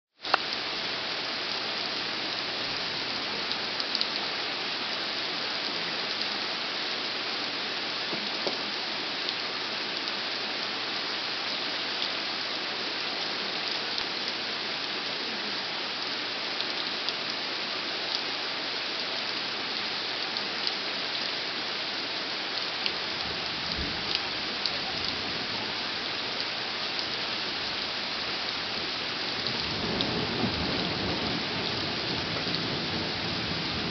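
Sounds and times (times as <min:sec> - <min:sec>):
rain on foliage: 0:00.2 - 0:33.9.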